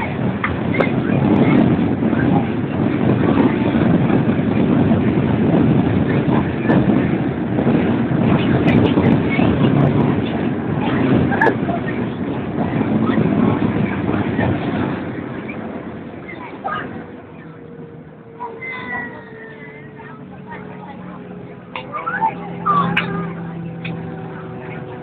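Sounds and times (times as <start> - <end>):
airliner cabin engine noise: 0.0 - 25.0.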